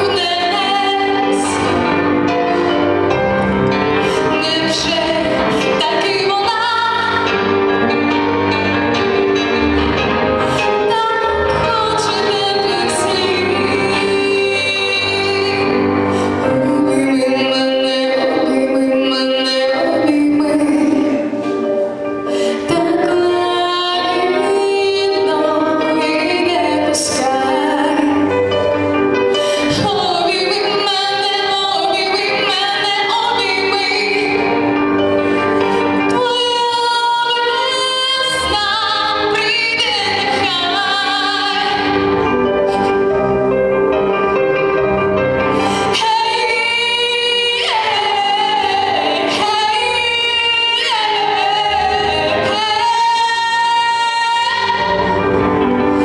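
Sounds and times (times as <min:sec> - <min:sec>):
woman singing with vibrato: 0:00.0 - 0:43.6, 0:45.4 - 0:56.0
musical accompaniment: 0:00.0 - 0:56.0.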